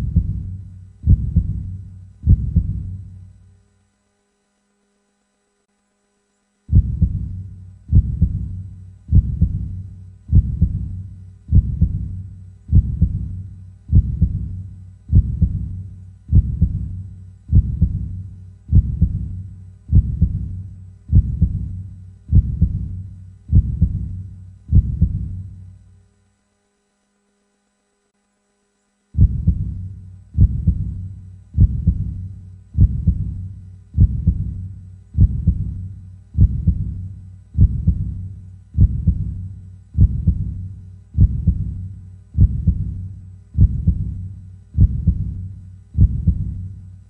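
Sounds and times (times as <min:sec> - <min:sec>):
heartbeat thumps: 0:00.0 - 0:03.2, 0:06.7 - 0:25.6, 0:29.2 - 0:46.8.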